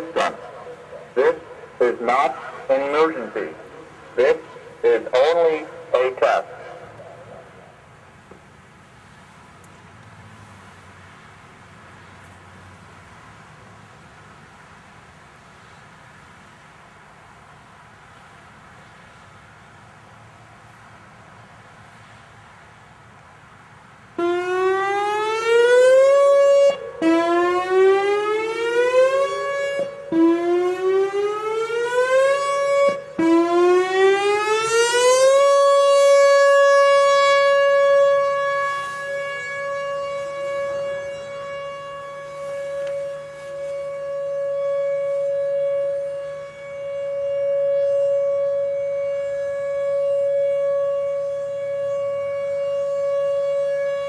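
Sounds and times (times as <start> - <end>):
outdoor warning siren: 0.0 - 9.5, 12.0 - 54.0.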